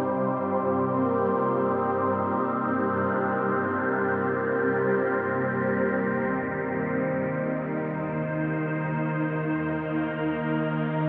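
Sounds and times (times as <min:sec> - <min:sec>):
ambient meditation music: 0:00.0 - 0:11.0.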